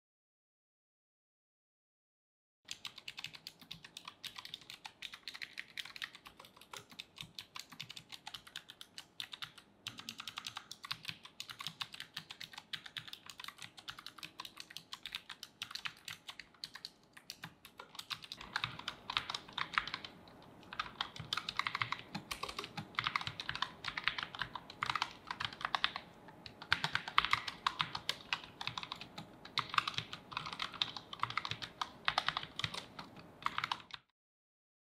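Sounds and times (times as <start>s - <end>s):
fast mechanical keyboard typing: 2.7s - 34.1s.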